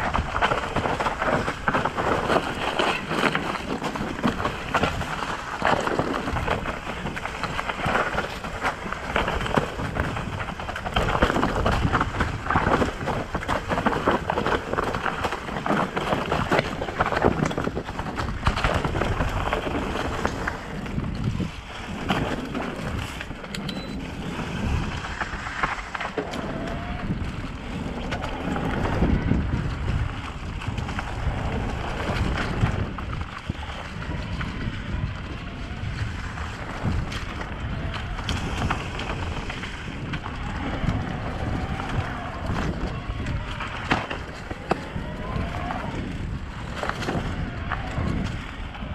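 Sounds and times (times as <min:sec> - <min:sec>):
bike rattling: 0:00.0 - 0:48.9
bike tyres rumbling over stones: 0:00.0 - 0:48.9
wind buffeting microphone: 0:00.0 - 0:48.9.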